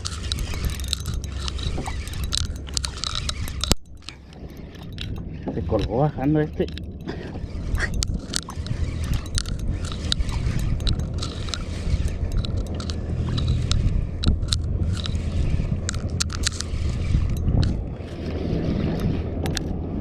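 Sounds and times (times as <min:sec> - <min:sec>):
fishing reel cranking: 0:00.0 - 0:19.7
wind rumble on microphone: 0:00.0 - 0:20.0.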